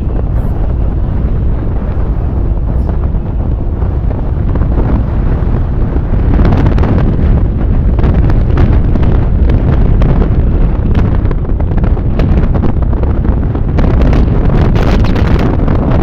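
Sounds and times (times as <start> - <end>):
vehicle road noise: 0.0 - 16.0
wind buffeting microphone: 0.0 - 16.0.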